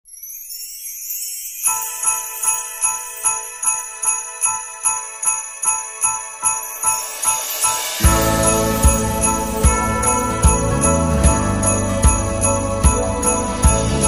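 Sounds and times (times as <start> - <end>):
held bell-like tones: 0.0 - 14.0
sleigh bells shimmer: 0.0 - 14.0
jingle bells shaken in a beat: 0.1 - 14.0.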